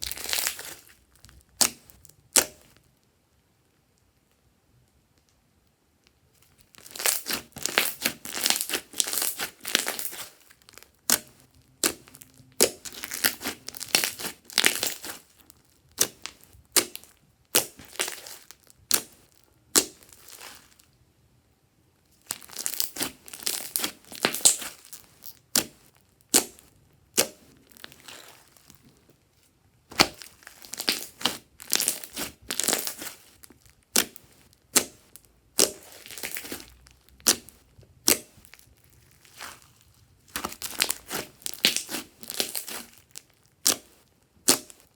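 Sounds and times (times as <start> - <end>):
slime crackling and popping: 0.0 - 2.9, 6.4 - 20.9, 22.1 - 29.0, 29.9 - 44.9.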